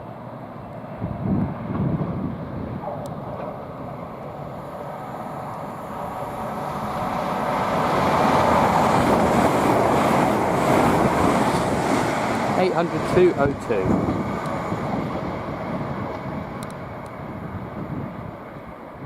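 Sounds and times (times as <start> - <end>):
high-speed train passing: 0.0 - 19.0.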